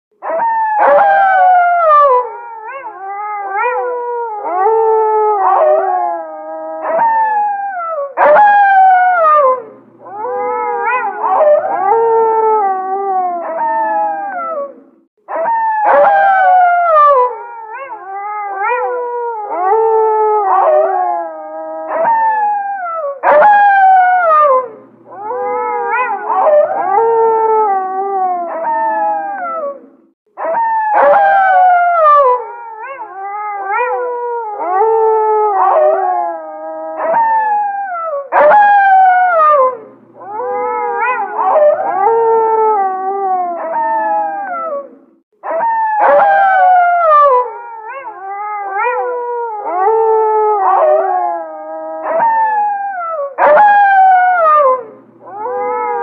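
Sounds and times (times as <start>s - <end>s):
wolves howling in chorus: 0.2s - 56.0s.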